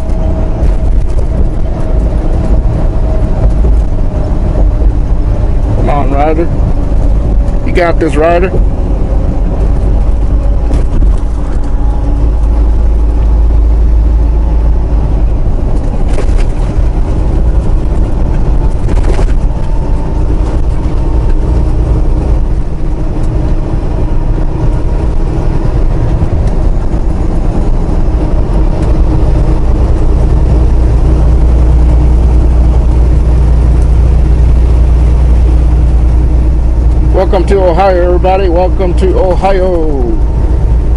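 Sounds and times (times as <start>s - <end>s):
road rumble: 0.0s - 40.9s
truck diesel engine running: 0.0s - 40.9s.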